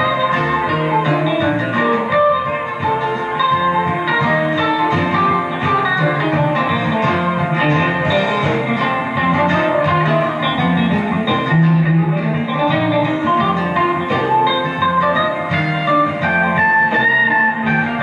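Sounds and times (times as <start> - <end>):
electric guitar lead lines: 0.0 - 18.0
live band music: 0.0 - 18.0.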